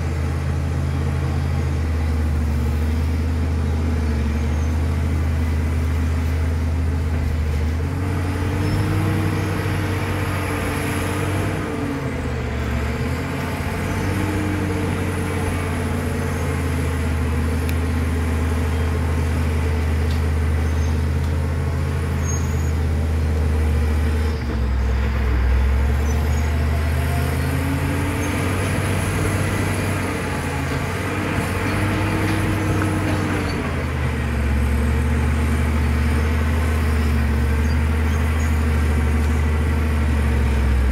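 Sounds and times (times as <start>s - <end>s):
bulldozer diesel engine working: 0.0s - 40.9s.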